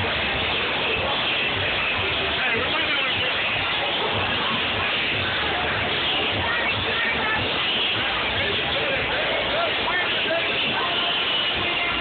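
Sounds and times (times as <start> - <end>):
bar crowd chatter: 0.0 - 12.0
music playing: 0.0 - 12.0.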